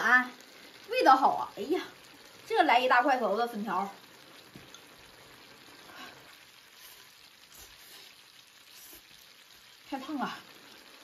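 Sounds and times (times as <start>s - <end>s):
stew sizzling in a wok: 0.0s - 11.0s.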